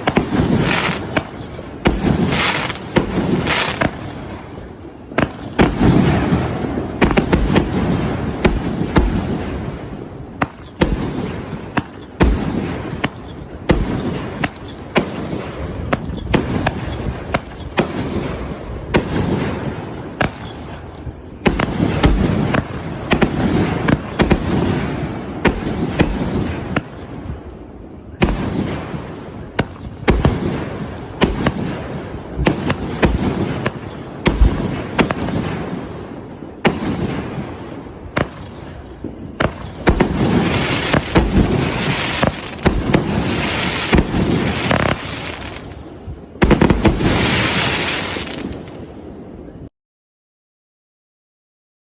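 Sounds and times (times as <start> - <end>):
fireworks reports: 0.0 - 49.7.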